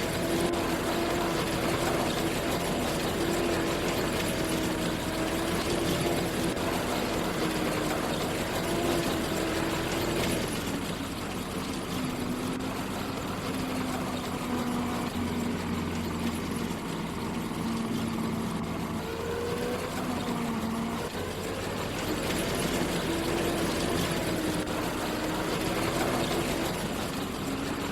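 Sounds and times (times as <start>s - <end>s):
machinery engine running: 0.0s - 27.9s.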